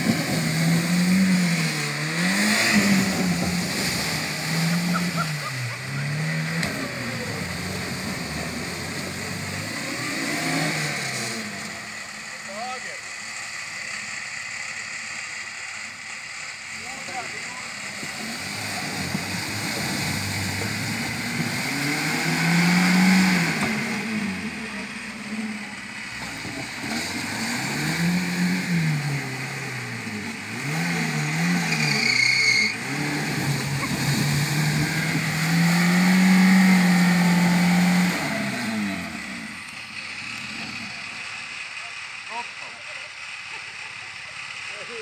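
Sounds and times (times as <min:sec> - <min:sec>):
car engine revving hard: 0:00.0 - 0:13.0, 0:16.8 - 0:41.8.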